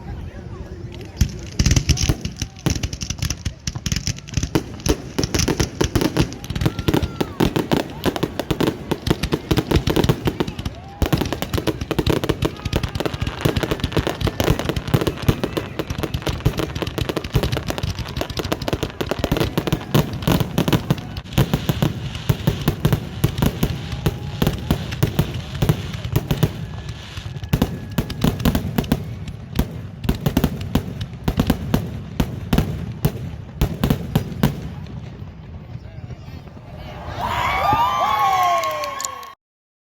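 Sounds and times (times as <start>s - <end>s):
fireworks bangs and crackles: 0.0s - 39.3s.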